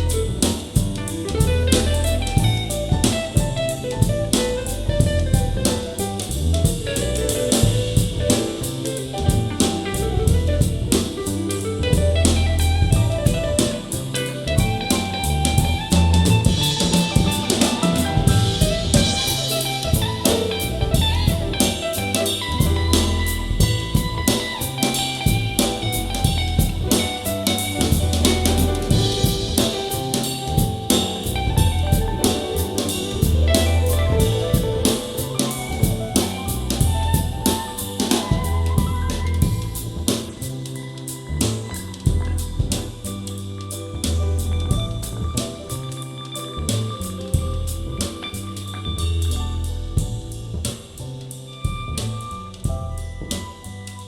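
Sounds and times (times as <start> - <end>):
snare rimshots and bass drum: 0.0 - 43.4, 44.0 - 46.0
soul jazz music: 0.0 - 54.0.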